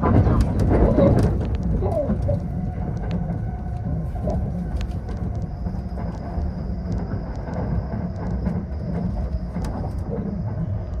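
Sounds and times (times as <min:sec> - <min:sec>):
train running rumble: 0:00.0 - 0:11.0
faint high whine: 0:01.9 - 0:11.0.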